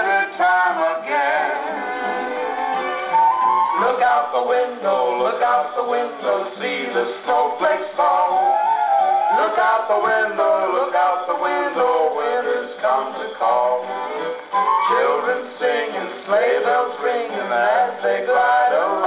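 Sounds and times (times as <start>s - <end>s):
song on phonograph record: 0.0s - 19.0s.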